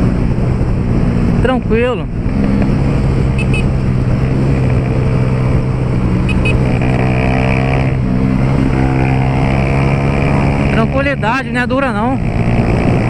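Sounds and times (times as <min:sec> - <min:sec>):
motorcycle engine with loud exhaust: 0:00.0 - 0:13.0.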